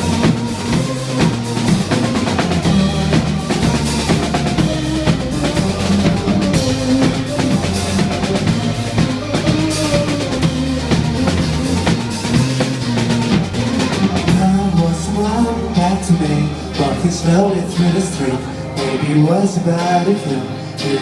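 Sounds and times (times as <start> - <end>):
band playing instrumental: 0.0 - 21.0
bass line: 0.0 - 21.0
drum kit beat: 0.0 - 21.0.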